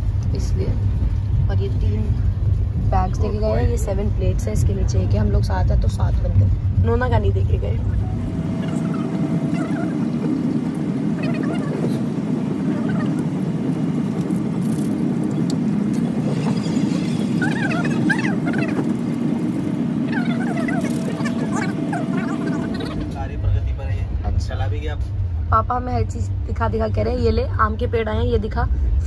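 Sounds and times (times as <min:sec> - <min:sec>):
train rumbling from inside: 0:00.0 - 0:29.0.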